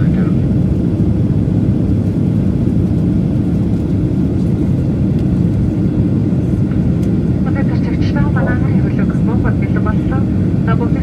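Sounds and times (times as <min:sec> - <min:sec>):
jet cabin engine noise: 0:00.0 - 0:11.0.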